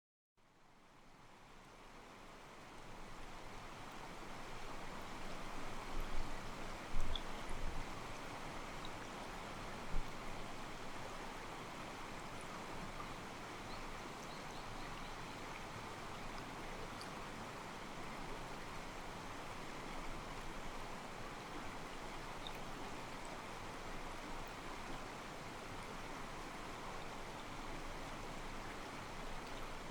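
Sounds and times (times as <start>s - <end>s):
mountain stream flowing: 1.5s - 29.9s.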